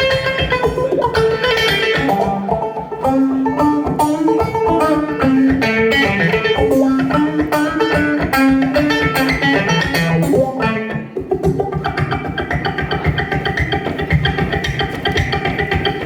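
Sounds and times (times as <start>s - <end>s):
banjo playing: 0.0s - 16.0s.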